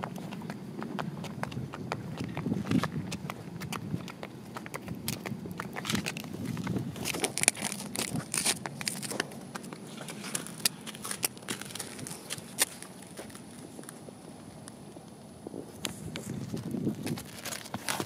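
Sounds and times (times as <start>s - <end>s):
donkey chewing dry plants: 0.0s - 18.0s.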